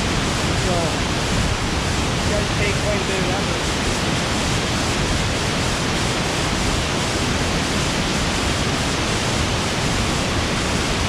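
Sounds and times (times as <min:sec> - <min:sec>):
waterfall crashing: 0:00.0 - 0:11.0.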